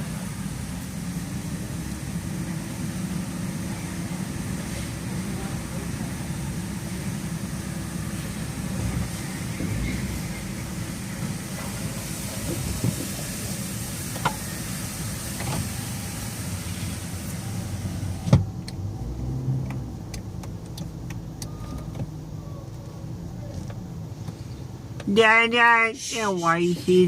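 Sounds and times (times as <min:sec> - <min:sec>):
car idling: 0:00.0 - 0:27.0
outside hiss: 0:00.0 - 0:27.0.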